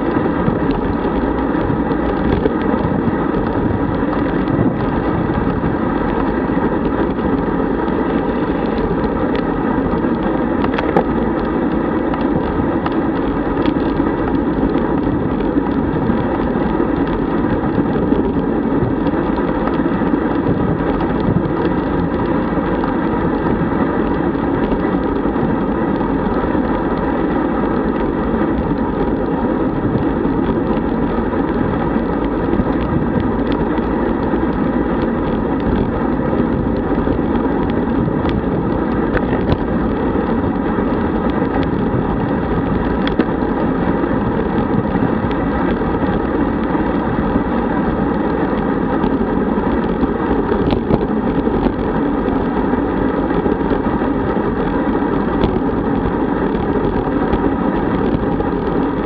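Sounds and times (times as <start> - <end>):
bicycle tyres rolling on tarmac: 0.0 - 59.0
wind rushing over microphone: 0.0 - 59.0.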